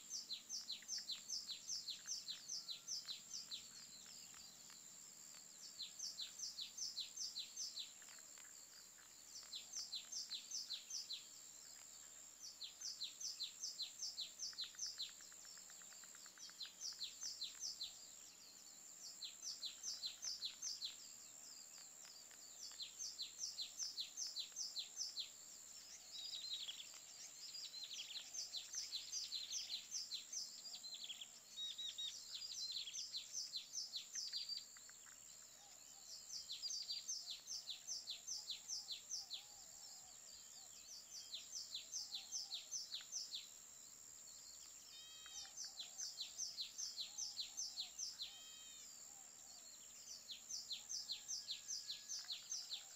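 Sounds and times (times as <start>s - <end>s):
bird chirping phrases: 0.0s - 52.9s.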